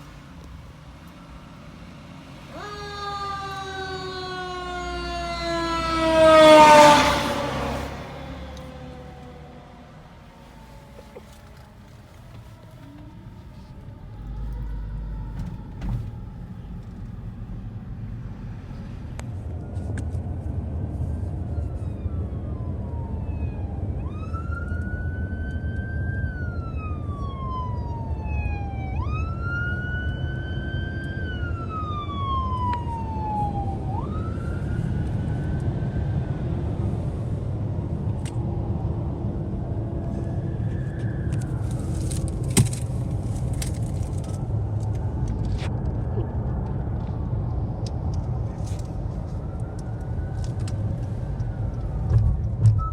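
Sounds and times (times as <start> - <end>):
engines and traffic rumble: 0.0 - 52.9
siren wailing: 0.3 - 18.3, 21.0 - 52.4.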